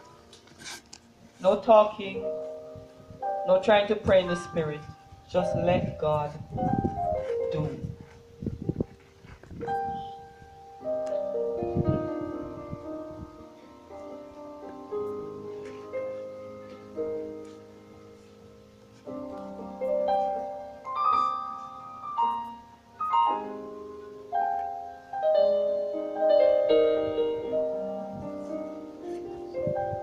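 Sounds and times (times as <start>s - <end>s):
slow soft piano music: 0.0s - 30.0s.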